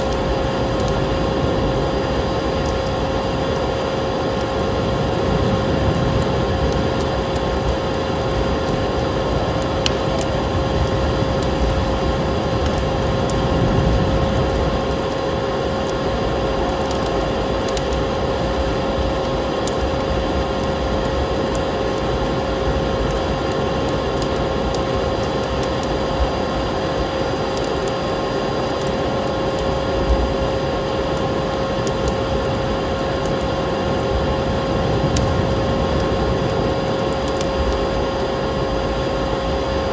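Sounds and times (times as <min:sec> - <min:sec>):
steady rushing noise: 0:00.0 - 0:39.9
wood fire crackling: 0:00.0 - 0:39.9.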